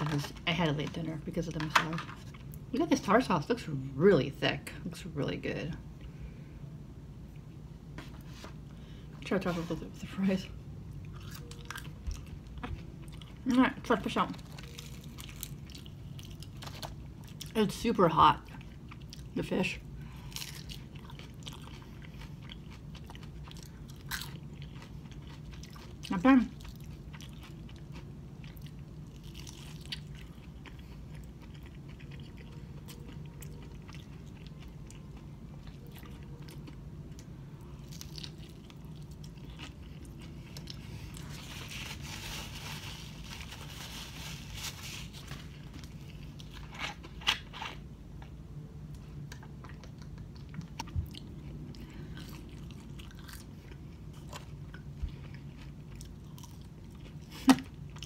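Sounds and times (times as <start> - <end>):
chewing crunchy food: 10.9 - 58.0.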